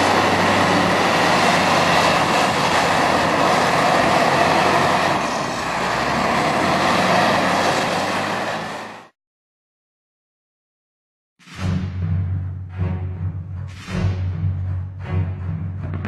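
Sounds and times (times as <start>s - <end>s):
heavy machinery running: 0.0s - 9.1s, 11.4s - 16.0s.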